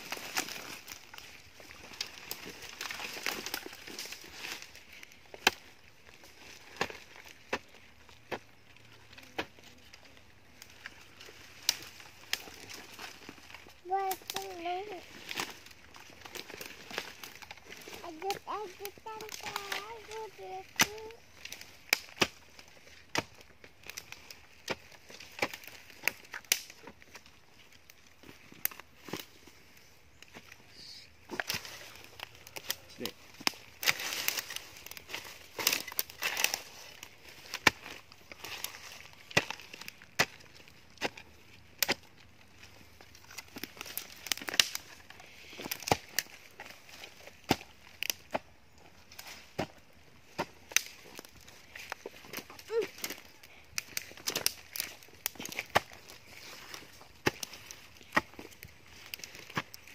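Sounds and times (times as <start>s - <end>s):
dry leaf litter rustling: 0.0s - 59.9s.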